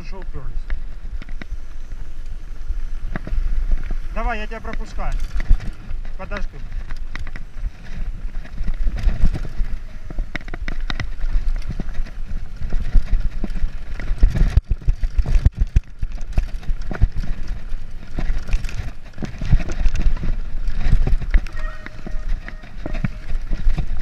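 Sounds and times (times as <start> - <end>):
mountain bike clattering: 0.0 - 24.0.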